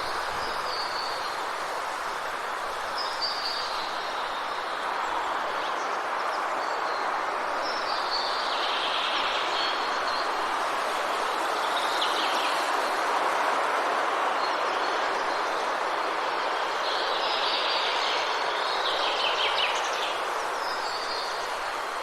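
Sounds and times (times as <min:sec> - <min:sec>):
rushing noise in trees: 0:00.0 - 0:22.0.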